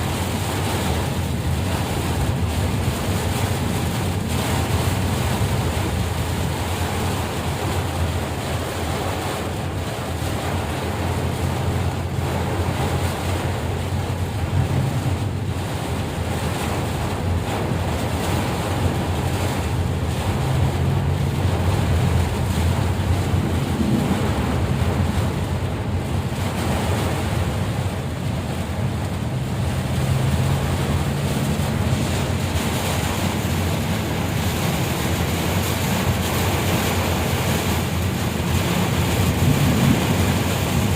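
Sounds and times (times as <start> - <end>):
heavy rain: 0.0 - 40.9
low rumble: 0.0 - 40.9
wind buffeting microphone: 0.0 - 40.9.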